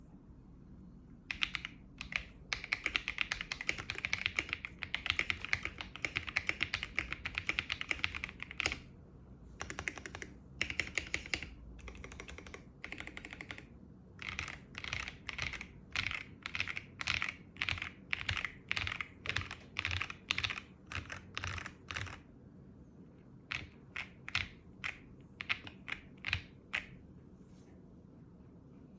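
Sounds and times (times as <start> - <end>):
mechanical keyboard typing: 1.3 - 8.9, 9.6 - 22.3, 23.5 - 27.0.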